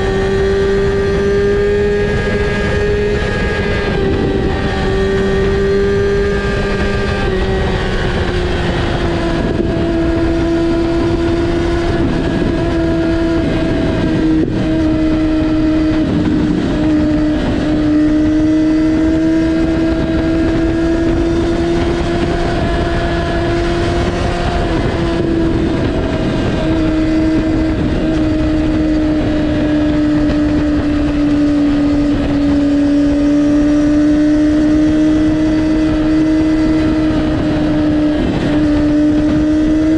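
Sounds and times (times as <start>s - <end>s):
loud motorcycle engine running: 0.0s - 39.9s.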